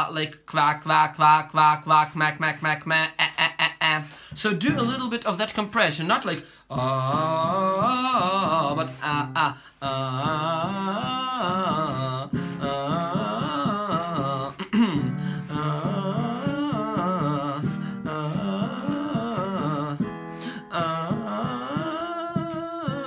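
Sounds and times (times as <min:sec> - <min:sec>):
man singing vocal scales: 0:00.0 - 0:23.0.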